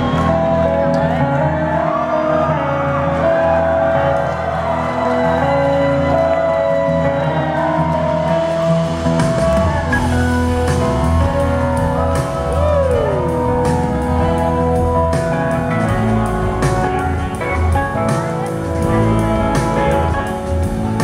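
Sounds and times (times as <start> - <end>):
live blues-rock band playing: 0.0 - 21.0.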